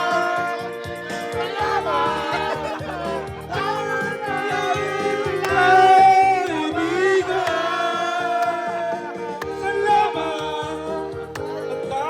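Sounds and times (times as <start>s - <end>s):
person singing a ballad: 0.0s - 12.0s
soft backing beat: 0.0s - 12.0s.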